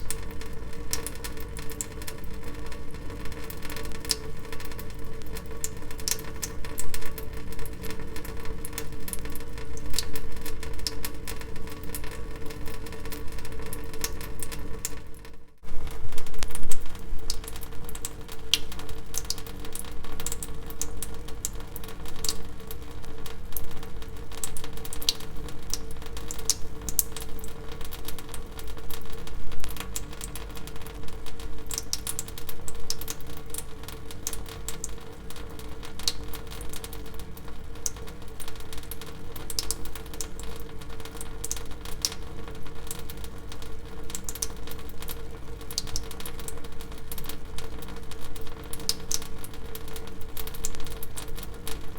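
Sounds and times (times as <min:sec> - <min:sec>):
water dripping: 0:00.0 - 0:51.9.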